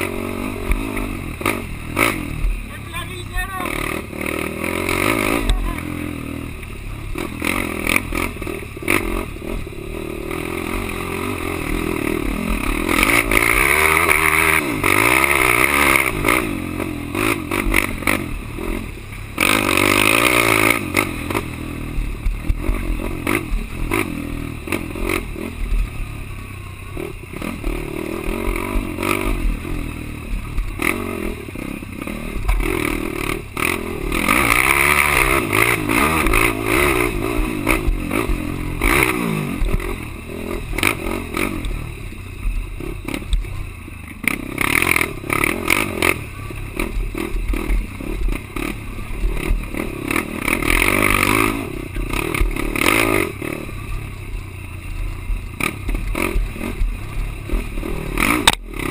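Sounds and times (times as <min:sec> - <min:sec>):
quad engine revving: 0:00.0 - 0:26.0, 0:27.0 - 0:54.0, 0:55.6 - 0:58.9.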